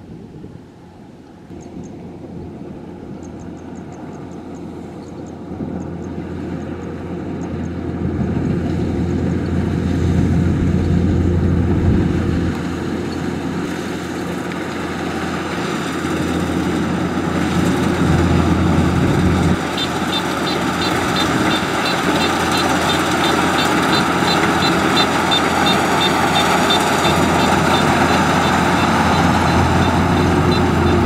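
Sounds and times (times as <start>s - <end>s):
diesel engine drone: 0.0s - 31.0s.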